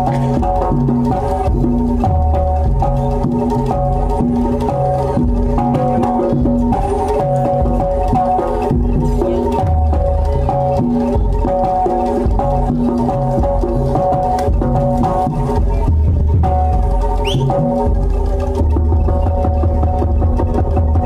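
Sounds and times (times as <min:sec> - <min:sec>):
drum strokes: 0:00.0 - 0:21.0
gamelan ensemble playing: 0:00.0 - 0:21.0.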